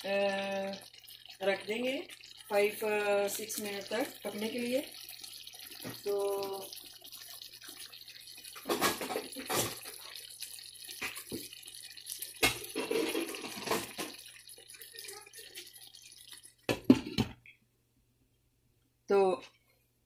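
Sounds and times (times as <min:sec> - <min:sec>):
curry bubbling and spluttering: 0:00.0 - 0:17.4.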